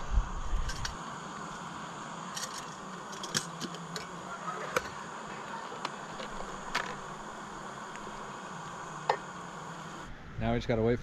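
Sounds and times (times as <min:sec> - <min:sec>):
steady soft hiss: 0:00.0 - 0:11.0.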